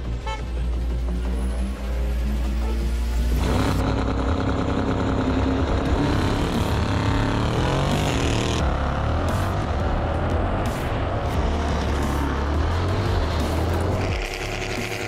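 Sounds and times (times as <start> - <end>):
engines at full throttle: 1.6 - 15.0.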